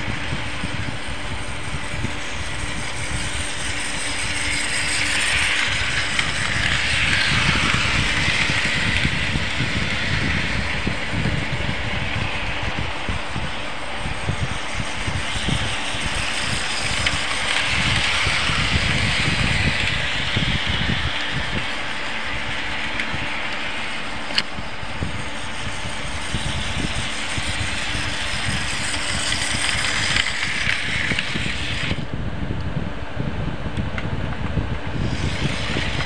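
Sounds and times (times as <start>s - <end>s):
wheels rattling over rails: 0.0s - 32.1s, 34.8s - 36.0s
model train whirring: 0.0s - 32.2s, 33.8s - 36.0s.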